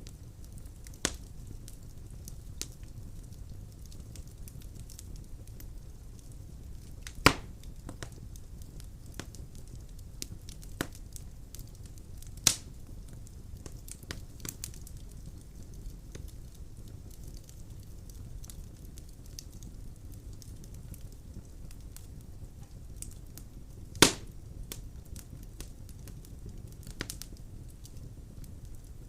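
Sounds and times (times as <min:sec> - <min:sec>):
fireplace wood crackling: 0:00.0 - 0:29.0
loud fire pops: 0:00.0 - 0:29.0.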